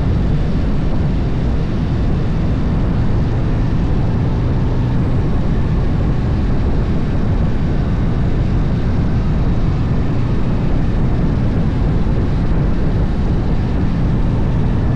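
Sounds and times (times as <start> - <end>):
motorcycle engine at speed: 0.0 - 14.9
wind and road noise: 0.0 - 14.9.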